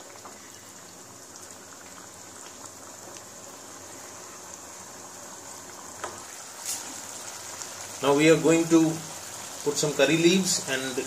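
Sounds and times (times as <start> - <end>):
curry simmering and bubbling: 0.0 - 10.4.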